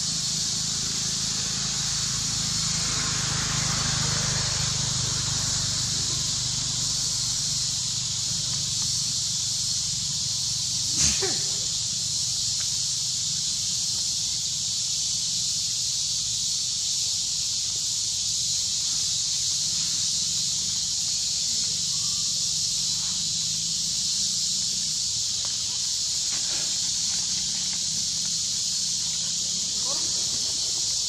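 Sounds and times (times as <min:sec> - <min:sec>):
forest insects droning: 0:00.0 - 0:31.0.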